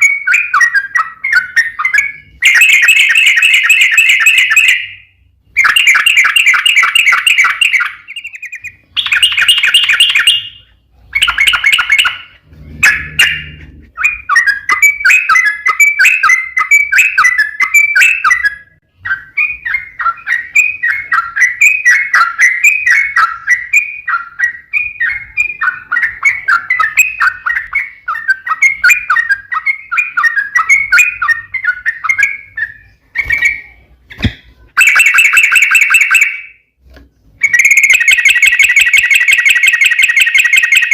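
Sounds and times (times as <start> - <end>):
bird chattering song: 0.0 - 36.6, 37.4 - 40.9.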